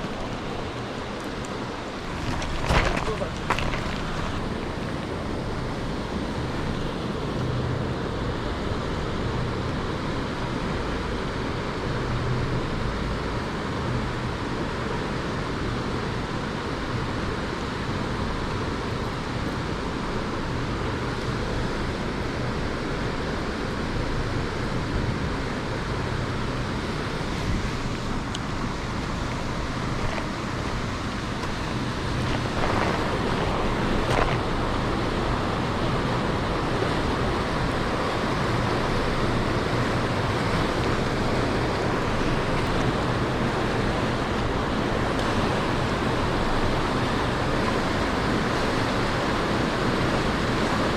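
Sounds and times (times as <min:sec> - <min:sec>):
stream rushing over rocks: 0:00.0 - 0:50.9.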